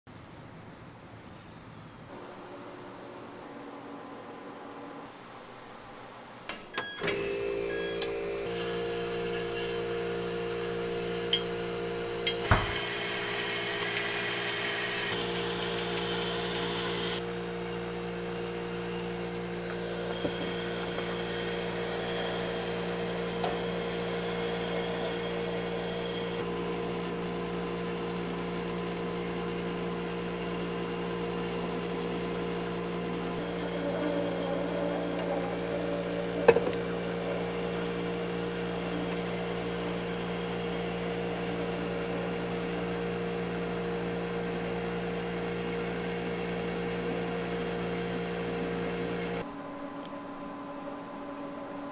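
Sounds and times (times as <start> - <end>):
ice machine motor humming: 7.0 - 49.5.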